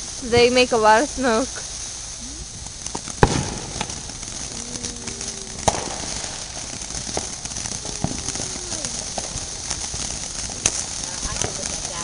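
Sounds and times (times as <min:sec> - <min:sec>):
firework fountain hissing and crackling: 0:00.0 - 0:12.0
sharp firework bangs: 0:00.0 - 0:12.0.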